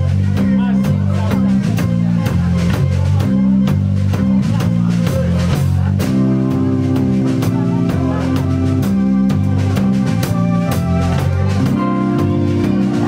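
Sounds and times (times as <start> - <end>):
bass guitar line: 0.0 - 13.0
drum kit beat: 0.0 - 13.0
electric guitar: 0.0 - 13.0.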